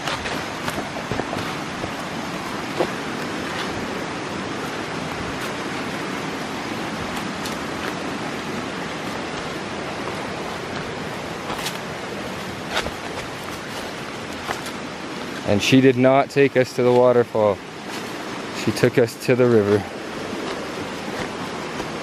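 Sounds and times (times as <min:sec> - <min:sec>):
footsteps on leaves: 0:00.0 - 0:15.4, 0:17.8 - 0:18.5, 0:19.6 - 0:22.0
river rushing: 0:00.0 - 0:22.0.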